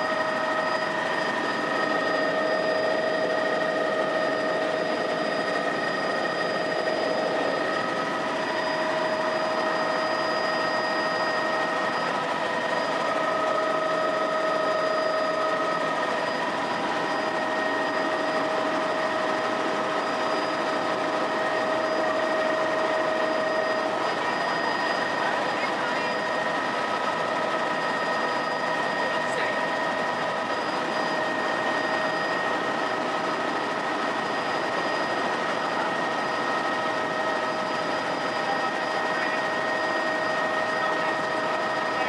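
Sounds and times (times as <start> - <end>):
helicopter running: 0.0 - 42.0.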